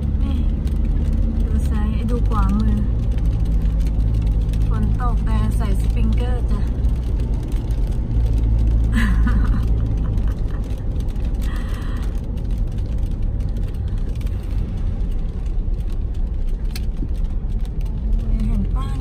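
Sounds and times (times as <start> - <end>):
car driving rumble from inside: 0.0 - 19.0
rain tapping on windshield: 0.0 - 19.0.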